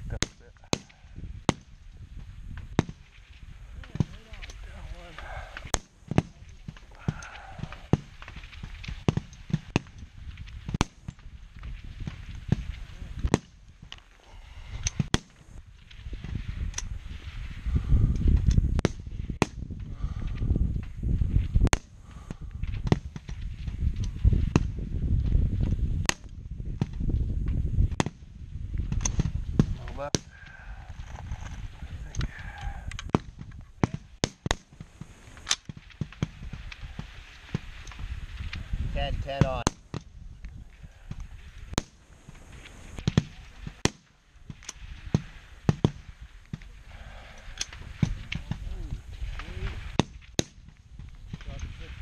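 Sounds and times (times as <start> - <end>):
wind rumble on microphone: 0.0 - 52.0.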